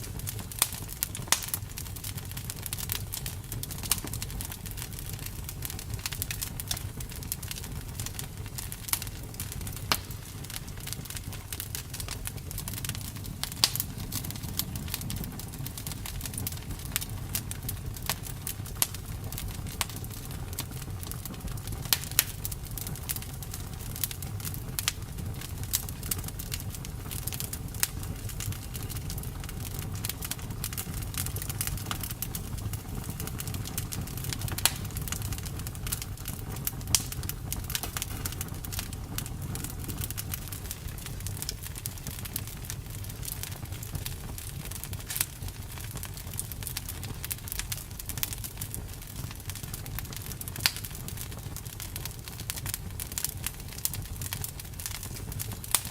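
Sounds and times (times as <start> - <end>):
crackles and pops of burning wood: 0.0 - 55.9
low rumble of flames: 0.0 - 55.9.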